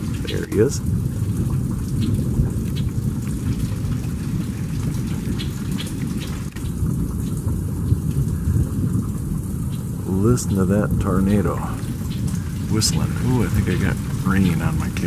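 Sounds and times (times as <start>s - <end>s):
constant low rumble: 0.0s - 15.0s
heavy rain: 0.0s - 15.0s.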